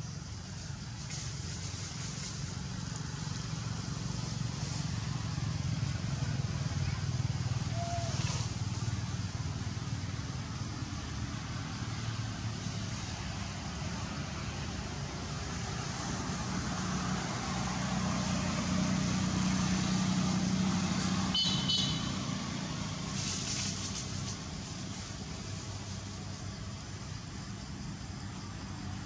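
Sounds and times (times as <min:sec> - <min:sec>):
vehicle engine passing by: 0:00.1 - 0:29.0.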